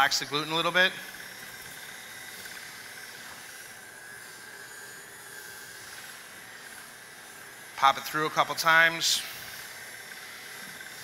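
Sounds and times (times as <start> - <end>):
stand mixer motor running: 0.0 - 11.0.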